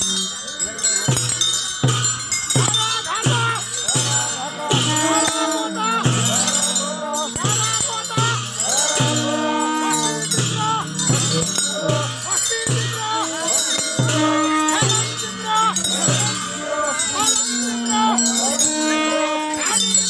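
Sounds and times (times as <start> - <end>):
men chanting: 0.0 - 20.0
metal bells jingling: 0.0 - 20.0.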